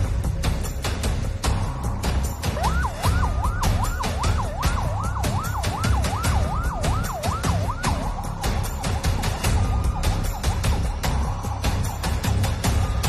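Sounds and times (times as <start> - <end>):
emergency vehicle siren: 2.4 - 13.0.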